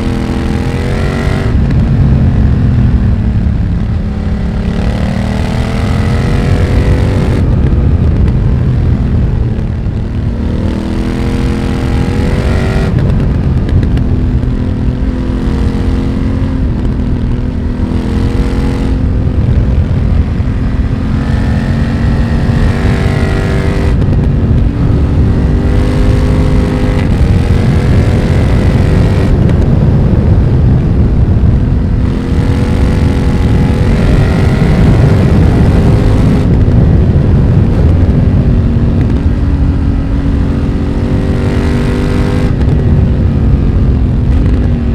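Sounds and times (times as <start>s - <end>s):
gear changes: 0.0s - 44.9s
motorcycle engine revving: 0.0s - 44.9s.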